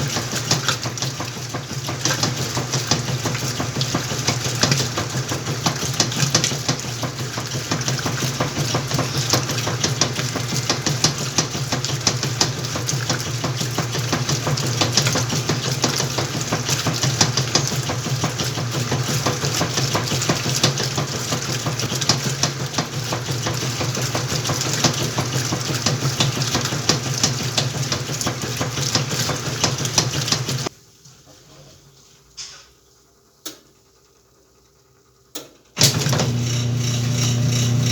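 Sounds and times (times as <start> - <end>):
washing machine motor hum: 0.0 - 30.7, 33.1 - 37.9
water sloshing in drum: 0.0 - 30.7.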